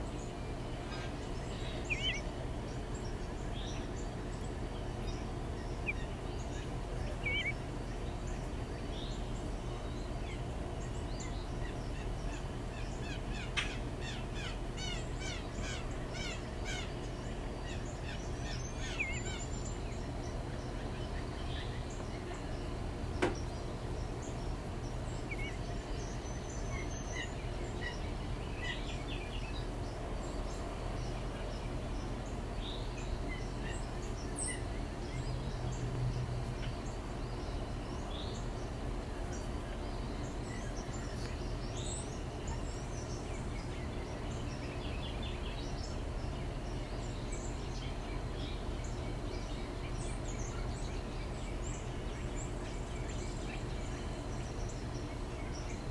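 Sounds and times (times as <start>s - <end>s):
low background hum: 0.0s - 55.9s
small birds chirping: 0.0s - 55.9s.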